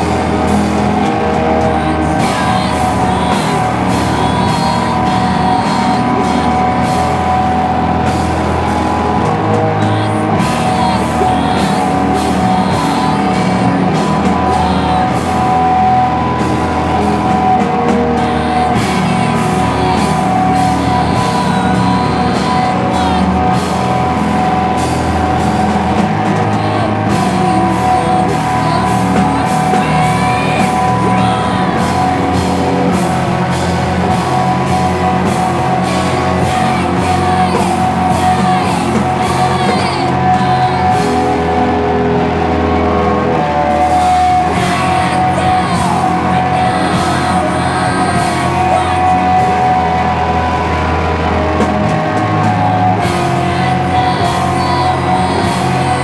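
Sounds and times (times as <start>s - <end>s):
distorted guitars droning: 0.0s - 56.0s
drums and crashing cymbals: 0.0s - 56.0s
person singing: 0.0s - 56.0s.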